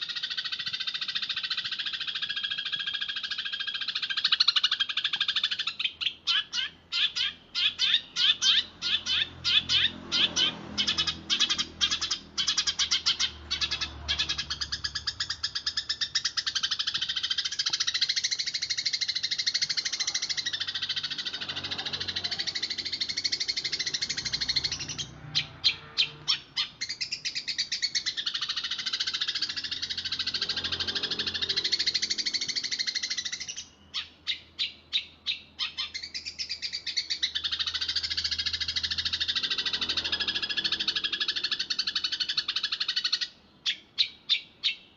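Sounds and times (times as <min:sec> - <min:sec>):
sparrows chirping chatter: 0:00.0 - 0:44.9
loud separate chirps: 0:05.7 - 0:43.1.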